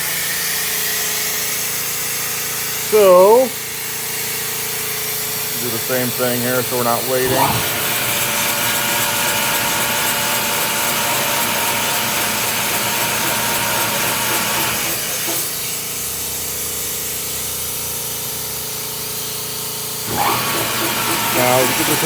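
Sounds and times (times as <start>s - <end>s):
clamping machine hissing: 0.0s - 16.2s, 19.8s - 22.0s.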